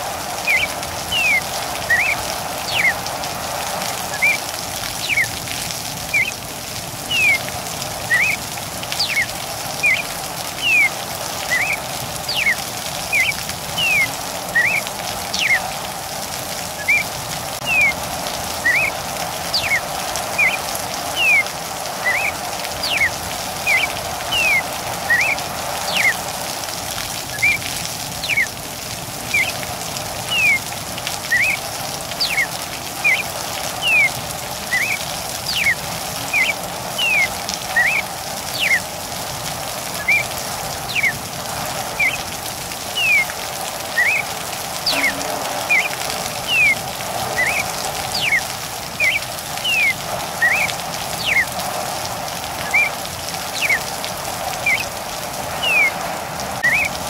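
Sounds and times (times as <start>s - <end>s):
steady rain: 0.0s - 57.0s
bird whistling calls: 0.4s - 3.1s, 4.0s - 5.4s, 6.1s - 6.4s, 7.0s - 15.7s, 16.7s - 18.0s, 18.6s - 26.3s, 27.2s - 28.6s, 29.2s - 38.9s, 39.9s - 41.2s, 41.9s - 42.3s, 42.9s - 51.5s, 52.6s - 53.9s, 54.6s - 54.9s, 55.6s - 56.0s, 56.6s - 57.0s.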